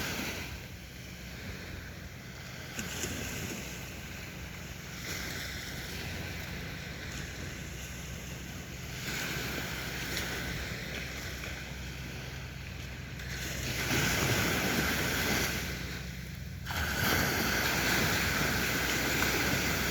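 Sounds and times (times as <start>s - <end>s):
sea waves breaking on beach: 0.0s - 19.9s
steady low rumble: 0.0s - 19.9s.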